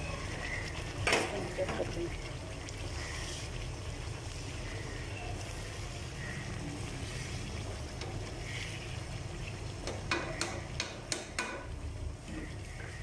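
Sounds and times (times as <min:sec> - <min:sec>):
pudding bubbling in a pot: 0:00.0 - 0:13.0.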